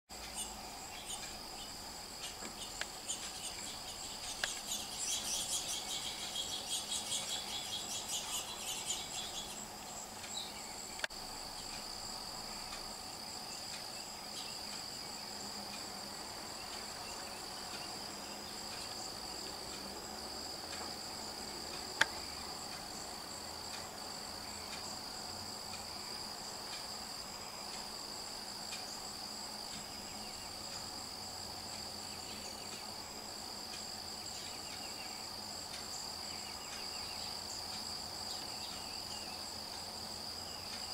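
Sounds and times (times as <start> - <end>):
insect chorus trilling: 0.1 - 40.9.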